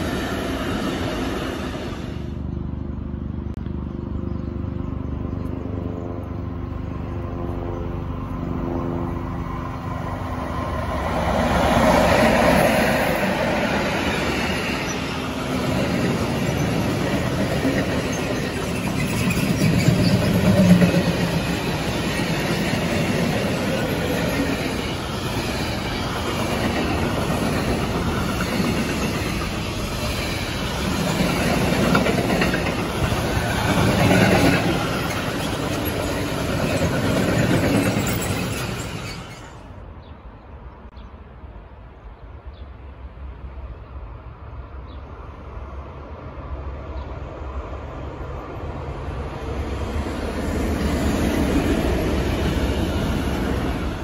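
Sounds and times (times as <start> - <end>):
wheels rumbling on rails: 0.0 - 40.1, 45.6 - 54.0
freight train passing: 0.0 - 54.0.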